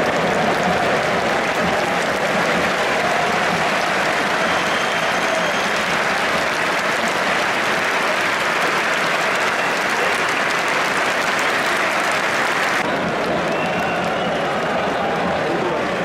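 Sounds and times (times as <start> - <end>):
stadium crowd clapping: 0.0 - 16.0.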